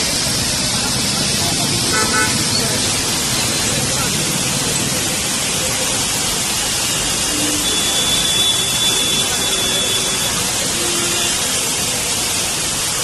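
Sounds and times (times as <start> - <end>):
floodwater flowing: 0.0 - 13.0
heavy rain: 0.0 - 13.0.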